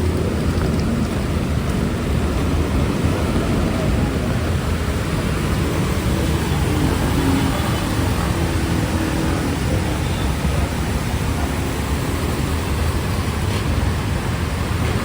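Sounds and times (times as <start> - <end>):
heavy rain: 0.0 - 15.0
street traffic: 0.0 - 15.0.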